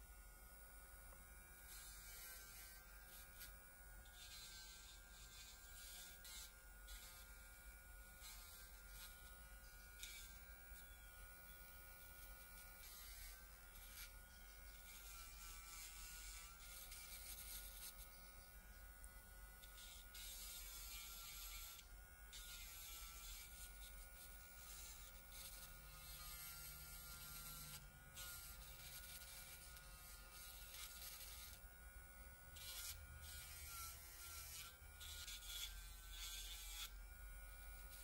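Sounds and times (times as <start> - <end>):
electric nail drill whine: 0.0 - 38.0
drill bit grinding: 1.7 - 18.2, 19.6 - 31.6, 32.5 - 37.0.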